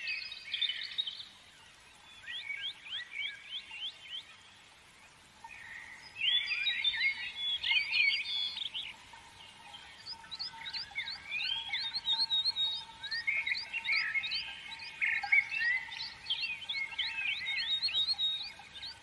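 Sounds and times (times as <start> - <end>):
faint steady tone: 0.0 - 19.0
songbirds chirping: 0.0 - 19.0.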